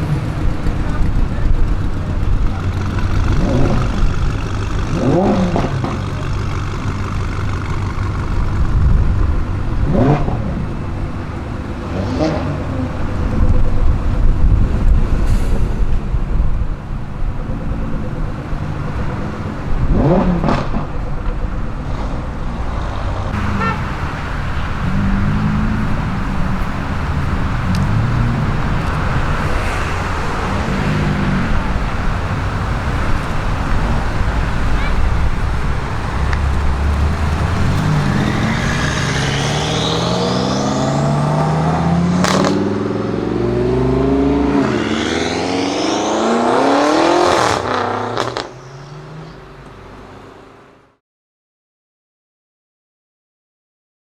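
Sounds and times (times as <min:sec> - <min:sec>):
car engine revving: 0:00.0 - 0:16.2, 0:16.8 - 0:50.8
traffic rumble: 0:00.0 - 0:51.0.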